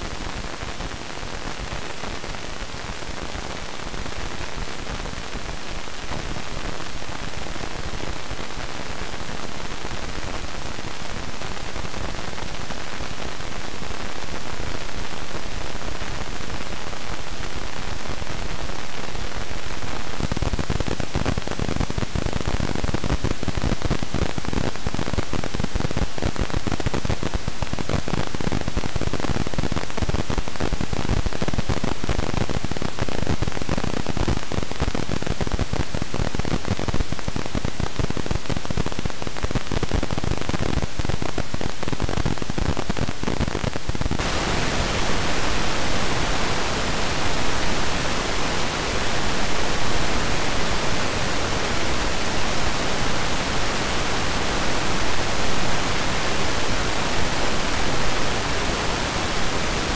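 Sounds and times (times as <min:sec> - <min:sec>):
transistor noise hiss: 0:00.0 - 0:59.9.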